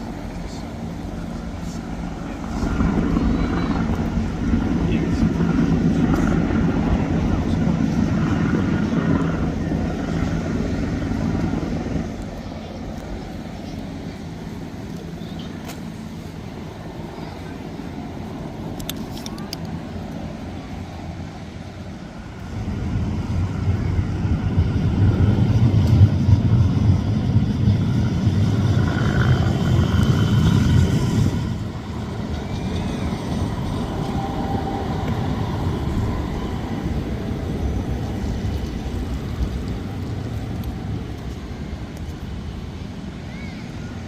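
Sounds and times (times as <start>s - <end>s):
street noise: 0.0s - 44.0s.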